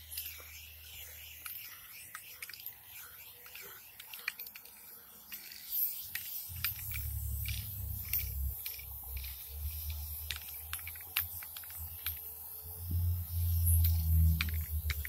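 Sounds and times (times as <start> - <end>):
spray can clicking and rattling: 0.0 - 15.0.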